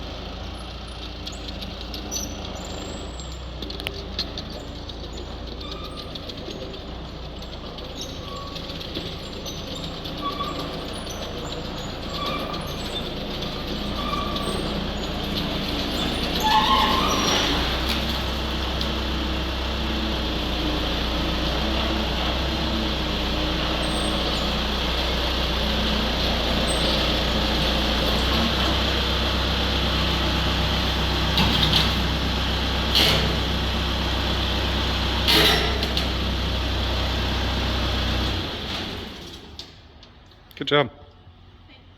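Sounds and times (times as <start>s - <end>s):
skid steer engine running: 0.0s - 40.4s.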